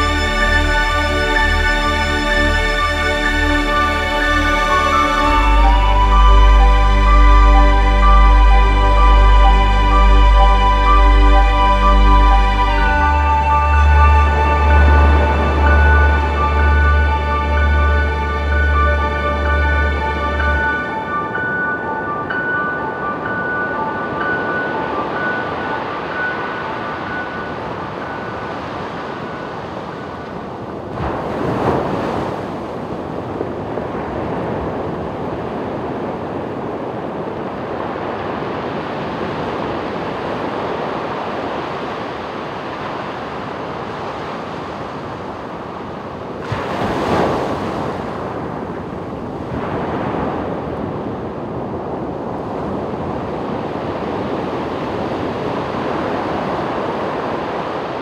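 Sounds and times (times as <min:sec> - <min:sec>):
ocean surf washing onto beach: 0:00.0 - 0:58.0
waves crashing: 0:00.0 - 0:58.0.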